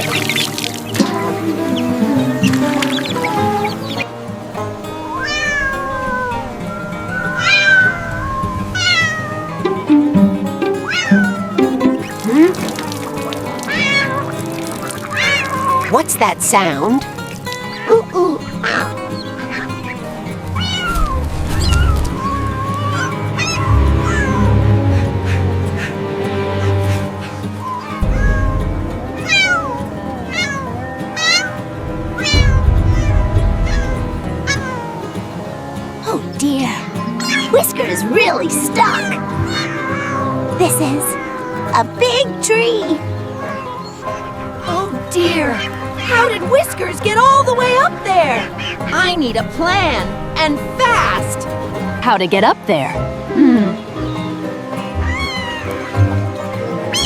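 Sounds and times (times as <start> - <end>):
cat meowing: 0.0 - 4.1, 5.0 - 35.6, 36.2 - 52.0, 53.0 - 57.0
background music: 0.0 - 57.0.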